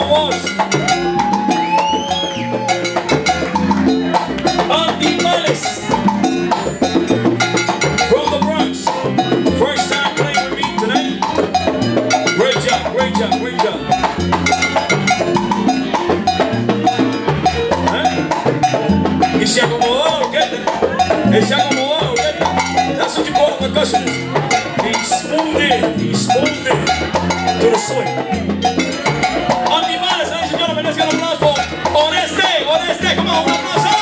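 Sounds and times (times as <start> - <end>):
drums and percussion: 0.0 - 34.0
salsa band playing: 0.0 - 34.0.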